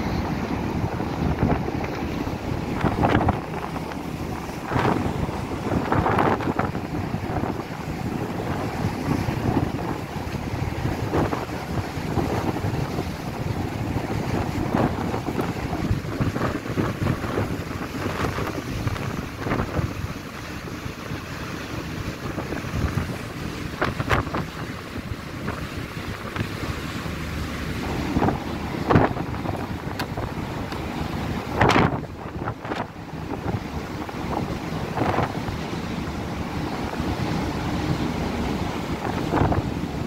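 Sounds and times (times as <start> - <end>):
choppy sea rushing: 0.0 - 40.0
wind buffeting microphone: 0.0 - 40.0.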